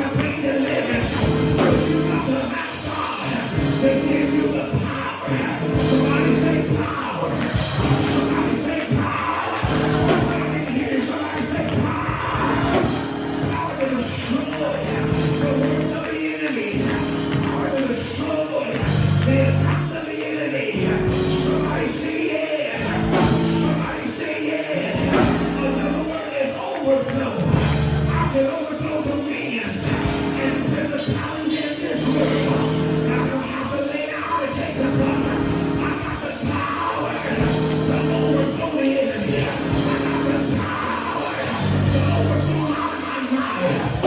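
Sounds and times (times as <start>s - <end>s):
sustained keyboard chords: 0.0s - 22.2s, 22.8s - 24.2s, 24.8s - 26.4s, 27.1s - 44.0s
people singing: 0.0s - 44.0s.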